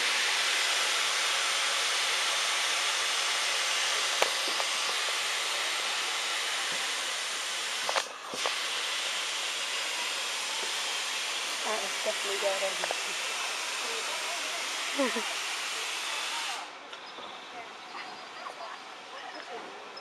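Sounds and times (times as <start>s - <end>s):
steam hissing from locomotive: 0.0s - 16.8s.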